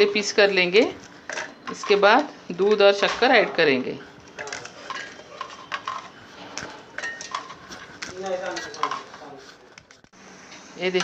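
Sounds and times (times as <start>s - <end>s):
utensils and dishes clinking: 0.0s - 9.9s.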